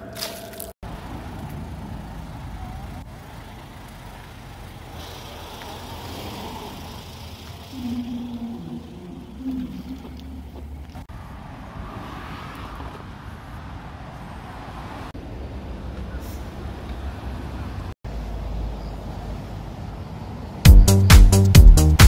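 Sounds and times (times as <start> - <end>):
road traffic rumbling: 0.0 - 22.0.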